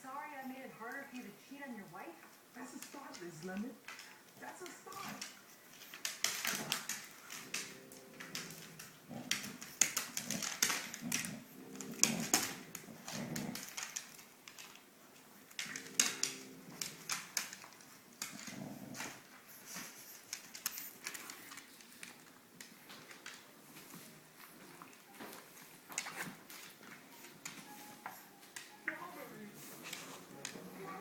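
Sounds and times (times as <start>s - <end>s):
irregular clicks and taps: 2.2s - 29.0s.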